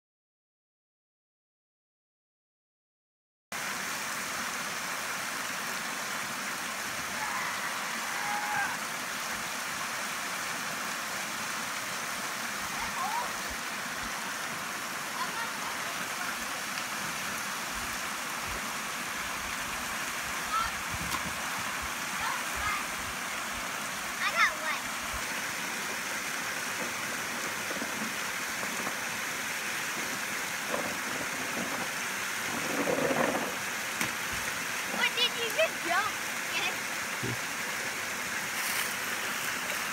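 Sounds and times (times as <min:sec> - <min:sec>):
creek water over rock ledge: 0:03.6 - 0:39.9.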